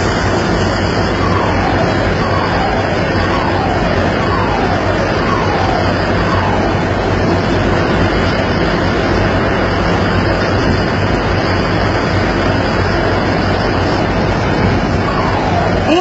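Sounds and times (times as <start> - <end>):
ship engine drone: 0.0 - 16.0
wind noise on microphone: 0.0 - 16.0.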